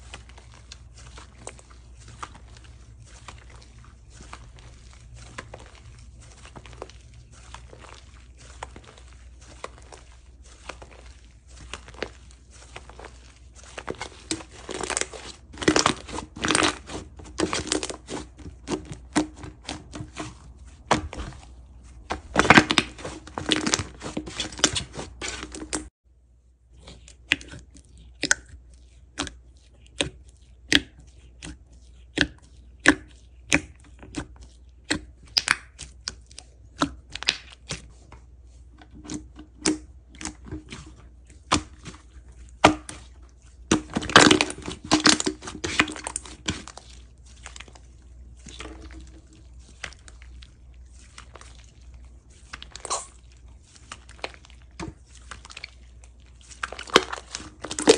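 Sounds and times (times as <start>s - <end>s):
slime squelching: 0.0s - 25.9s, 26.5s - 57.9s.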